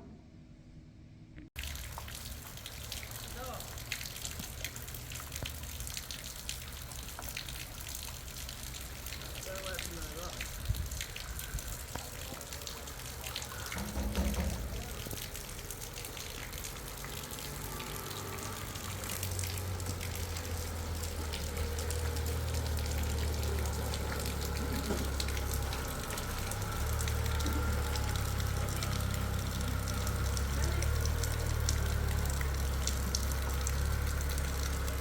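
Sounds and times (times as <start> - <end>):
heavy rain: 1.6 - 35.0.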